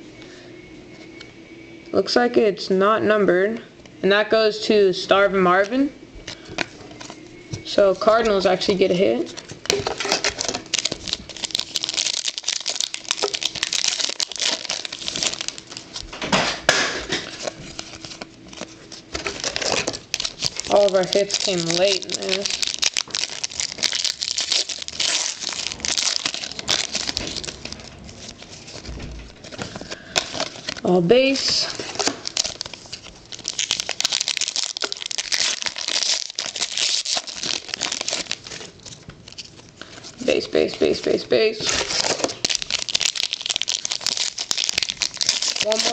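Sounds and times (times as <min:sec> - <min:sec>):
wrapper crinkling and rustling: 0:06.3 - 0:16.3, 0:17.0 - 0:45.9.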